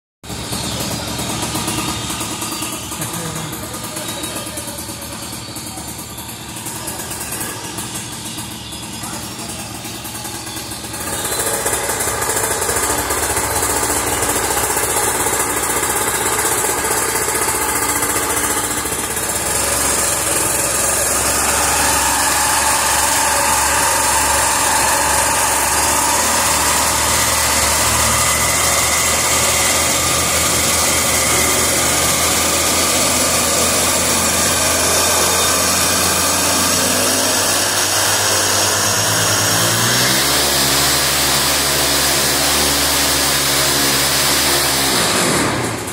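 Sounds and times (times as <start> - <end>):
two-stroke paramotor engine running: 0.2 - 45.9.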